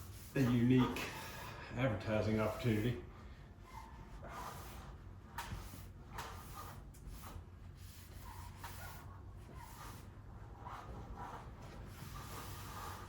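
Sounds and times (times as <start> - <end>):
rubbing with shop wipes: 0.0 - 13.0.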